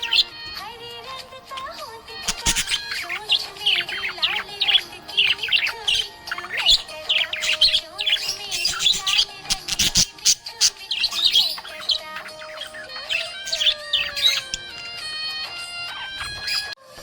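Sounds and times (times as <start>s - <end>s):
budgerigar chirping and warbling: 0.0s - 16.8s.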